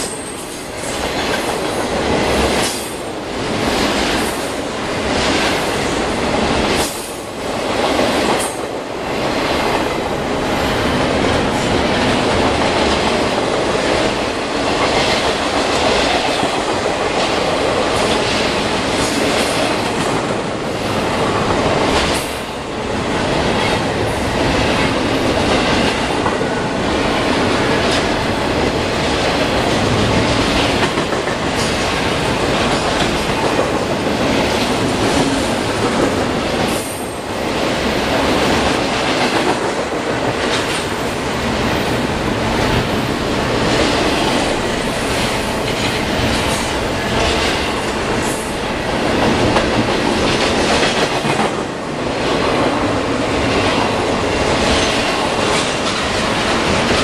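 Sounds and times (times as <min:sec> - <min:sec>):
rail clacks: 0:00.0 - 0:57.0
train wheels rumbling on rails: 0:00.0 - 0:57.0.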